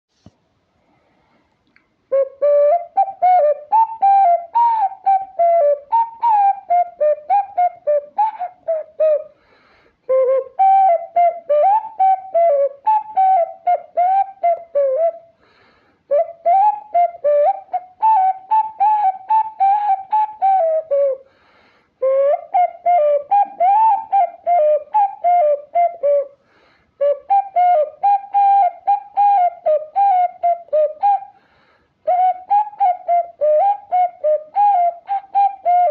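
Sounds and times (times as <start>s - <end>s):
ocarina melody: 2.1s - 9.4s, 10.1s - 15.3s, 16.1s - 21.2s, 22.0s - 26.4s, 27.0s - 31.3s, 32.0s - 35.9s.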